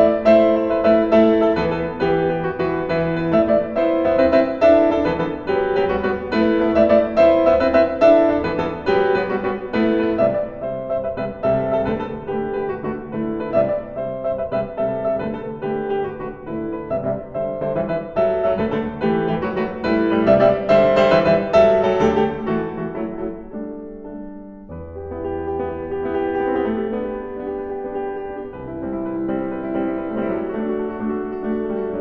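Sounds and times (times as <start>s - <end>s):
solo grand piano: 0.0s - 32.0s.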